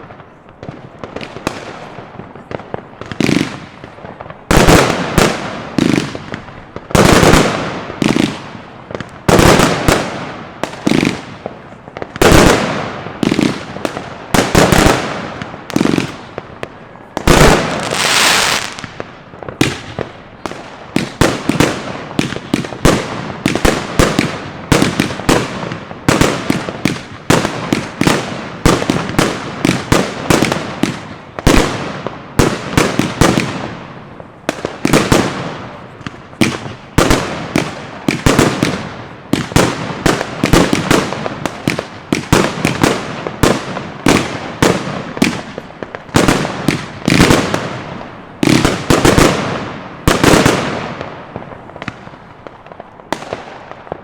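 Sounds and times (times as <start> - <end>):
fireworks launching and bursting: 0.0 - 54.0.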